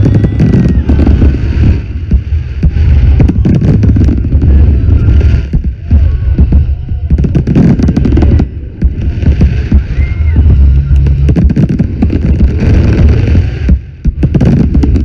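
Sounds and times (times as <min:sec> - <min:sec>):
fireworks bangs and crackles: 0:00.0 - 0:15.0
low rumble: 0:00.0 - 0:15.0.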